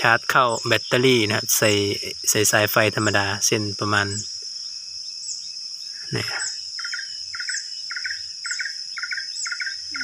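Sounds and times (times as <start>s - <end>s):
bird chirping: 0.0s - 10.0s
high insect drone: 0.0s - 10.0s.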